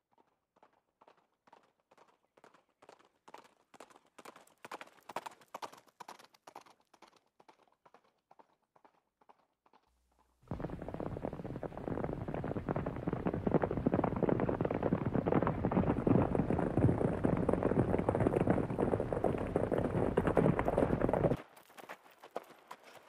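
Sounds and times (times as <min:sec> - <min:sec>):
horses galloping on dirt: 0:00.0 - 0:23.0.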